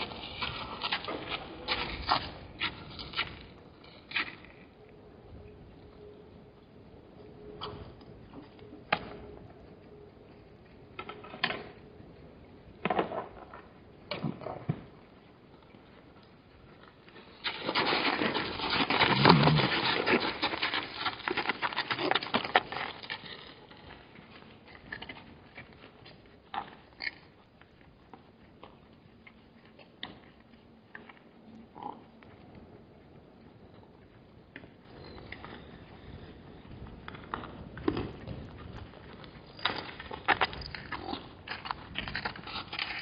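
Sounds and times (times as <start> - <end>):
hooves clattering on dry ground: 0.0 - 43.0.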